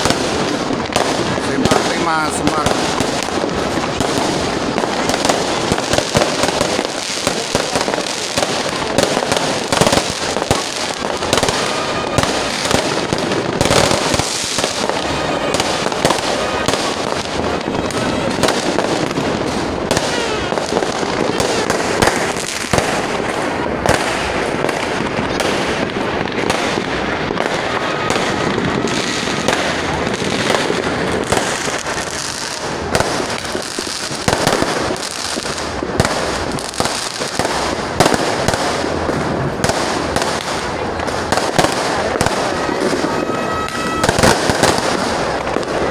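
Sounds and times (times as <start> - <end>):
fireworks bangs and crackles: 0.0 - 45.9
people's voices: 0.0 - 45.9.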